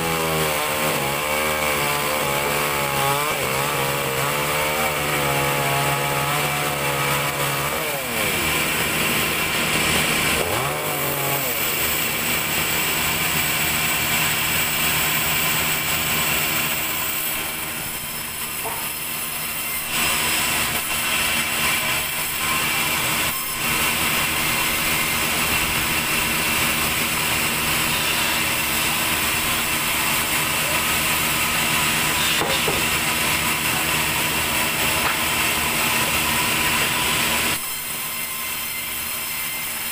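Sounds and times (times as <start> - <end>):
chainsaw revving: 0.0 - 37.6
band saw cutting log: 0.0 - 39.9.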